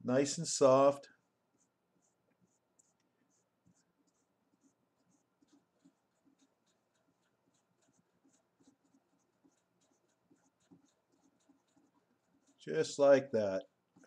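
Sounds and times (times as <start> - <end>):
blending stump rubbing paper: 1.5 - 13.0.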